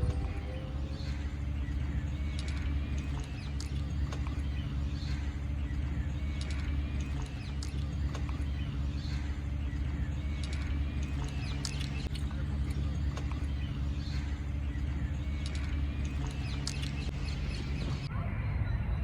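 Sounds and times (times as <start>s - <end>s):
low mechanical hum: 0.0s - 18.1s
small birds chirping: 0.0s - 18.1s.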